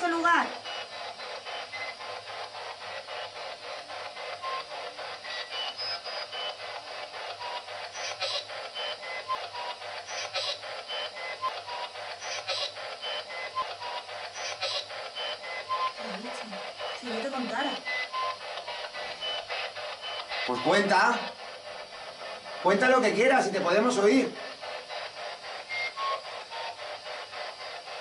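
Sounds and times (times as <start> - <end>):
radio static chopping: 0.0 - 28.0.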